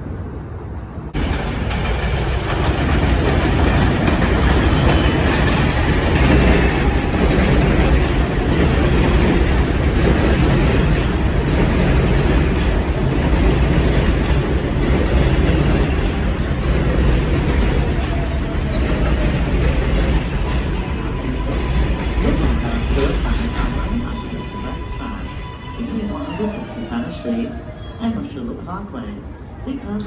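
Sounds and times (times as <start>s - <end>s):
subway train running on track: 0.0s - 30.0s.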